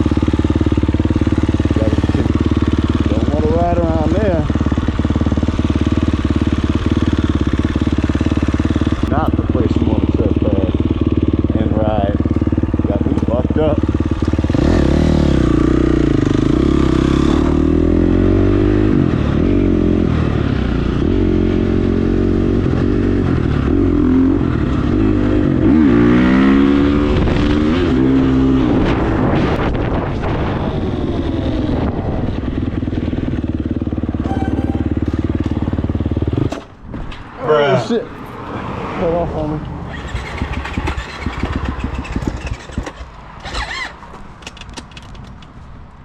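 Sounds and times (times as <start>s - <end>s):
dirt bike engine revving: 0.0s - 36.5s, 39.9s - 44.0s.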